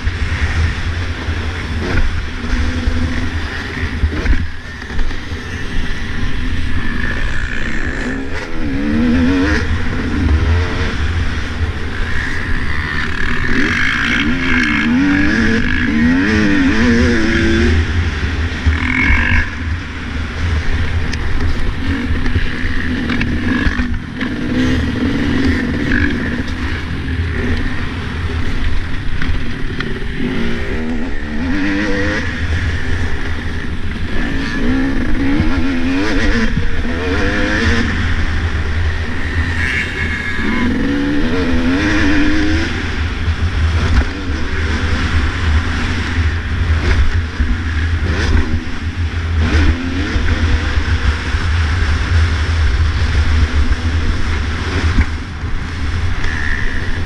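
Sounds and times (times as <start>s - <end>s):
dirt bike engine revving: 0.0s - 57.0s
wind rumble on microphone: 0.0s - 57.0s.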